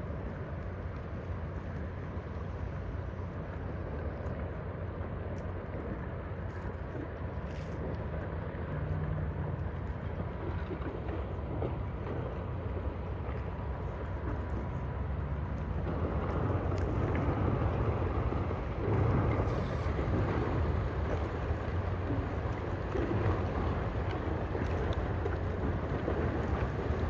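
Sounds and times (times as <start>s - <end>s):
ship engine low drone: 0.0s - 27.0s.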